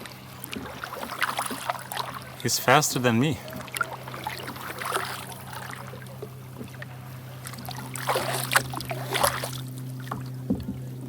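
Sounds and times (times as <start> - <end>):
paddle strokes splashing in water: 0.0 - 10.7
steady low hum: 0.0 - 11.0.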